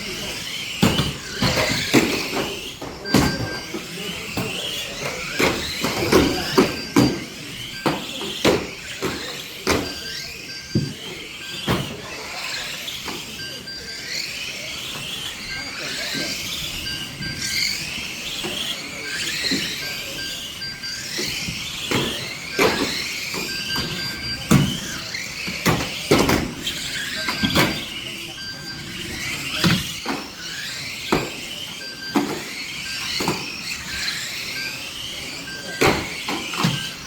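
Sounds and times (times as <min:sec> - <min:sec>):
radio-controlled cars whining: 0:00.0 - 0:37.0.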